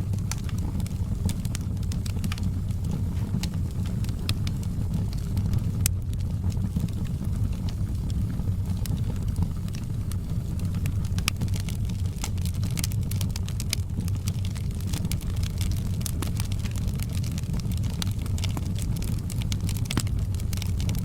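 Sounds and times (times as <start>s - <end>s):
fire rumbling: 0.0s - 21.0s
wood crackling and popping: 0.0s - 21.0s.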